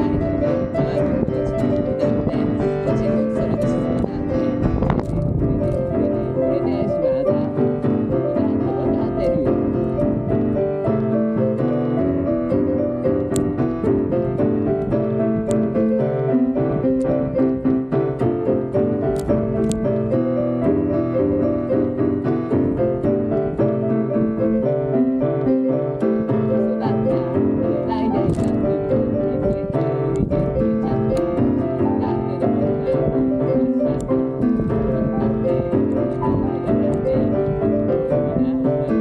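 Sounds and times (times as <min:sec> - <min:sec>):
piano-toned keyboard playing: 0:00.0 - 0:39.0.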